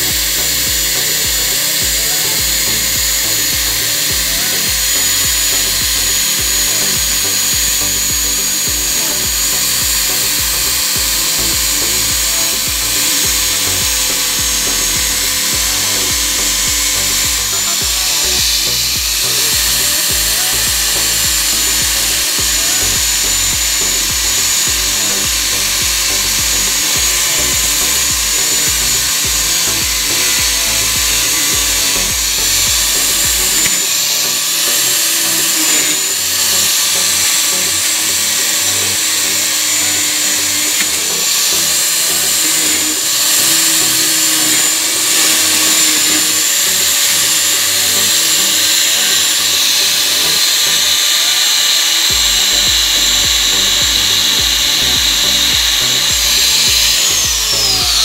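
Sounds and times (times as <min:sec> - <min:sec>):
angle grinder grinding plastic: 0:00.0 - 0:58.0.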